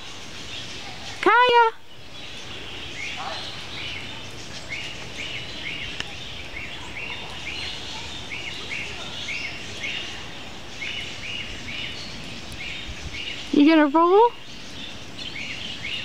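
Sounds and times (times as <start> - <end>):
outdoor background hiss: 0.0 - 16.0
small bird chirping: 0.0 - 16.0.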